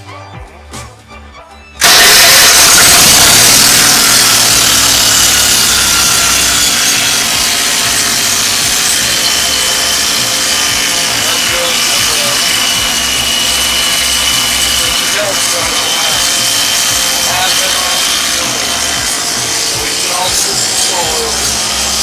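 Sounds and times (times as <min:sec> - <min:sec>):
tractor engine running: 0:01.8 - 0:22.0.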